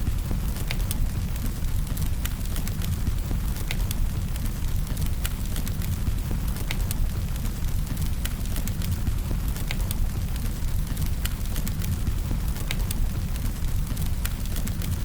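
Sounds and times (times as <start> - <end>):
firewood crackling and popping: 0.0 - 15.0
low rumble of flame: 0.0 - 15.0.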